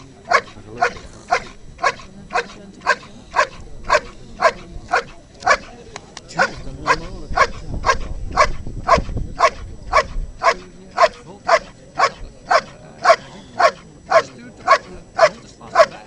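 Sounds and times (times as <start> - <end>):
dog barking: 0.2 - 16.0.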